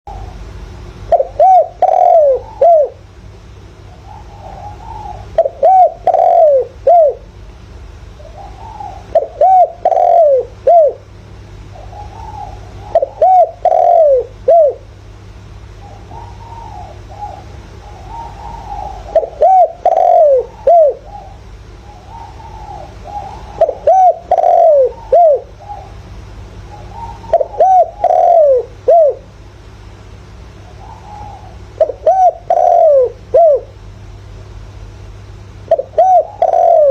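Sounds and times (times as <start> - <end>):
dove cooing: 1.0 - 3.0, 3.8 - 7.3, 8.1 - 15.0, 15.7 - 29.3, 30.6 - 33.9, 35.6 - 36.9.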